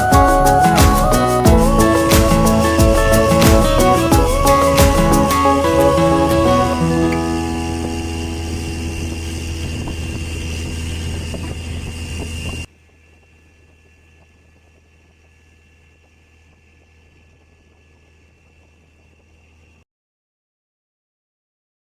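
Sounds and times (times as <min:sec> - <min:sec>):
boat engine droning: 0:00.0 - 0:19.8
faint steady hum: 0:00.0 - 0:19.8.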